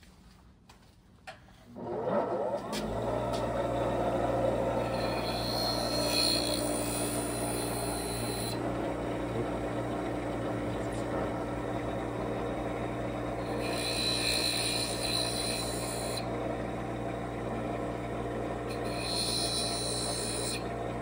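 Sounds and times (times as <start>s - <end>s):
bench grinder motor humming: 1.8s - 21.0s
hissing grind of tool bit: 2.7s - 20.8s.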